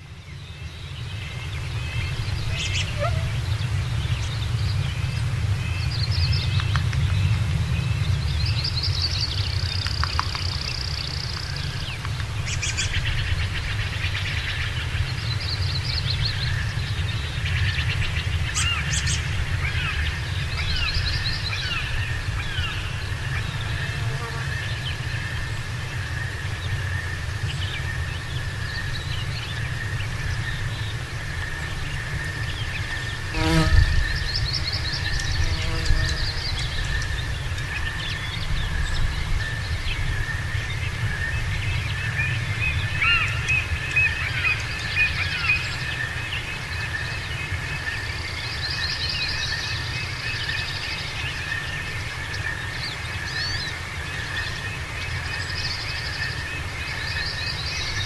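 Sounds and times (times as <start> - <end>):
birds chirping: 0.6 - 58.0.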